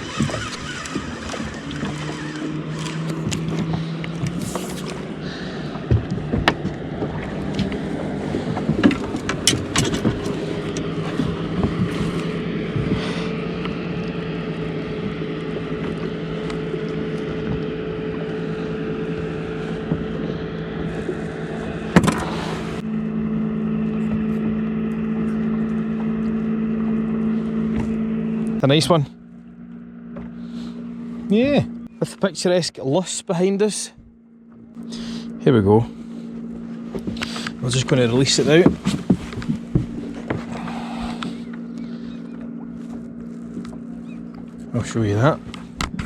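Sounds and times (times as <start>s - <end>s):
boat engine humming: 0.0s - 46.0s.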